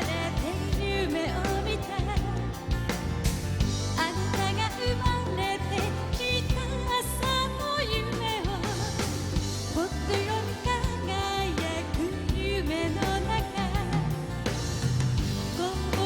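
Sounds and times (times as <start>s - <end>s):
bass: 0.0s - 16.0s
drums: 0.0s - 16.0s.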